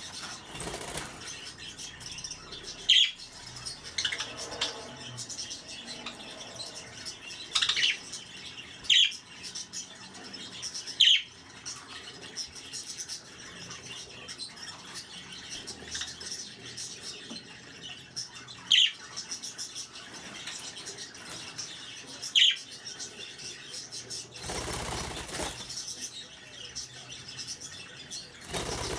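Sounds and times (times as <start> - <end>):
budgerigars chattering: 0.0 - 28.9
sharp bird calls: 0.0 - 28.9.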